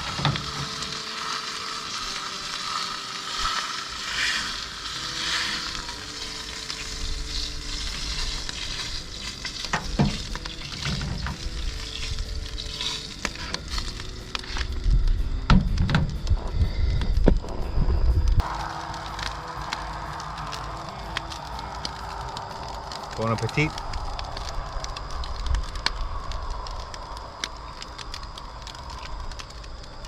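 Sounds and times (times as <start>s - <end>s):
food sizzling in a pan: 0.0s - 15.5s, 18.4s - 30.0s
low rumble: 5.8s - 30.0s.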